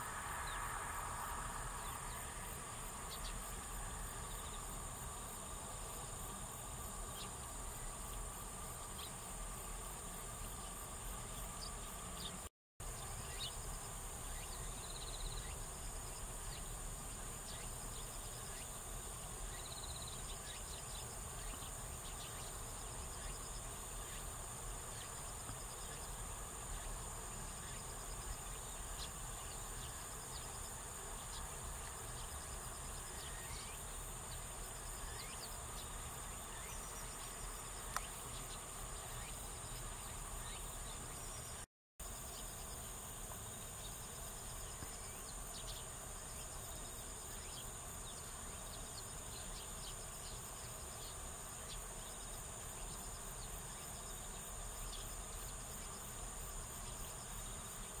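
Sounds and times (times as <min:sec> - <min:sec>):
insects singing: 0:00.0 - 0:58.0
sparrows chirping: 0:01.8 - 0:09.4, 0:10.2 - 0:41.6, 0:43.6 - 0:58.0.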